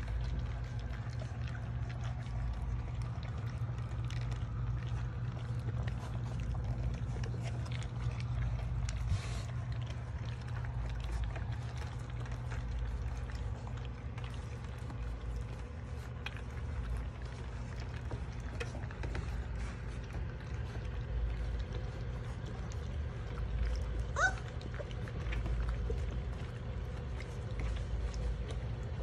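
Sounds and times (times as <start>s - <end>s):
puppies chewing and lapping: 0.0s - 29.0s
steady low hum: 0.0s - 29.0s.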